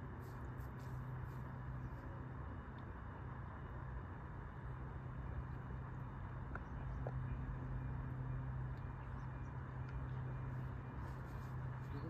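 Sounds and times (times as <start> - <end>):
faint background noise: 0.0 - 12.0
steady low hum: 0.0 - 12.0.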